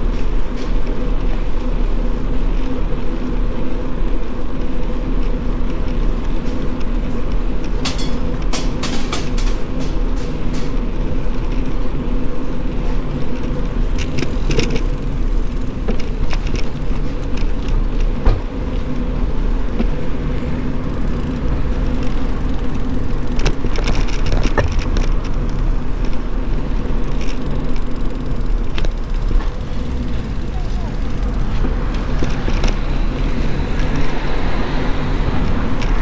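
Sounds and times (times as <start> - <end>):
bicycle rattling over bumps: 0.0 - 36.0
bicycle tyres rumbling: 0.0 - 36.0.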